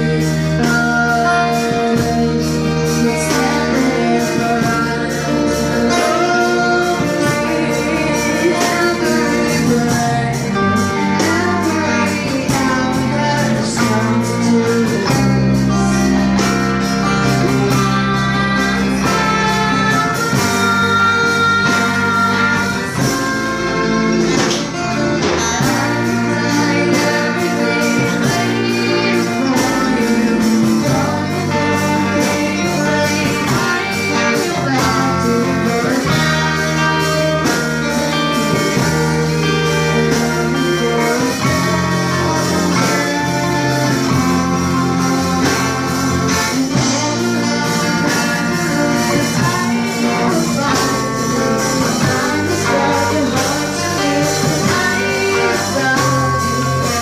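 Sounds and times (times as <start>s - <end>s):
bass guitar: 0.0s - 57.0s
drum kit: 0.0s - 57.0s
girl singing into a microphone: 0.0s - 57.0s
strummed acoustic guitar: 0.0s - 57.0s.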